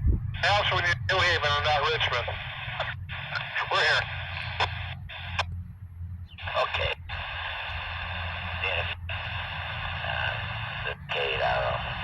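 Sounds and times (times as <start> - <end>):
steady low hum: 0.0 - 12.0
radio scanner static hiss: 0.4 - 5.5, 6.4 - 12.0.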